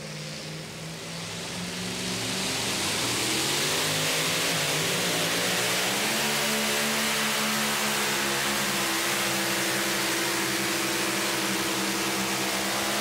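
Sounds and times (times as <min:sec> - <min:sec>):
supercharged engine under full load: 0:00.0 - 0:13.0.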